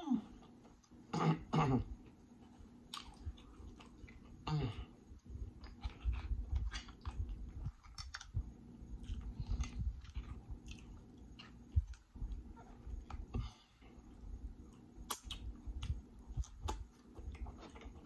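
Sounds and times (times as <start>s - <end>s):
wet chewing with mouth clicks: 1.9s - 4.4s, 5.0s - 18.0s.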